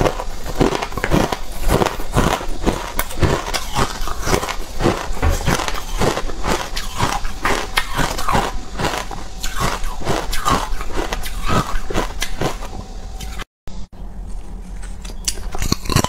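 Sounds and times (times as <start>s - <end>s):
ice being chewed: 0.0s - 13.4s, 14.2s - 16.0s.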